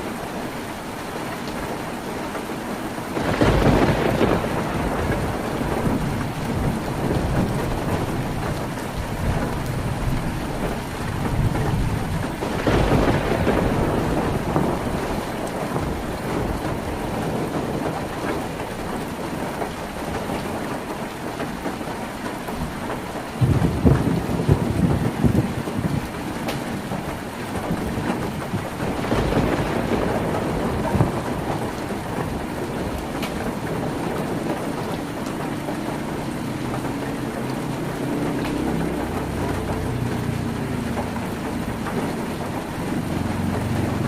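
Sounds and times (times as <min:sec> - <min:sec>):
heavy rain on a tin roof: 0:00.0 - 0:44.0
thunder rumbling: 0:03.1 - 0:21.9, 0:22.6 - 0:44.0.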